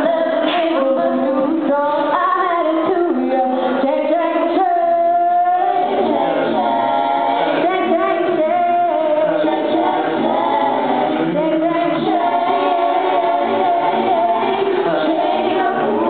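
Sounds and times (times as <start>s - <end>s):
group singing in harmony: 0.0s - 16.0s.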